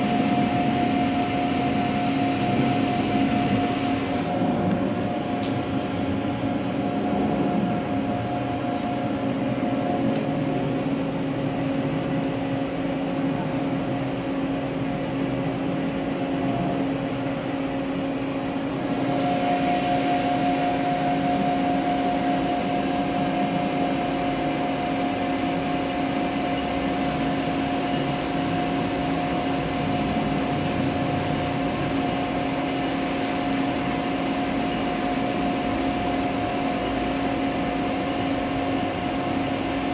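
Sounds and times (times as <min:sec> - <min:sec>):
steady mechanical hum: 0:00.0 - 0:39.9.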